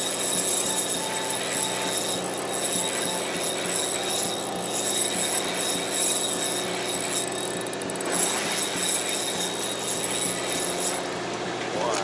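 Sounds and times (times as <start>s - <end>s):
fishing reel gears whirring: 0.0s - 11.2s
boat machinery drone: 0.0s - 12.0s.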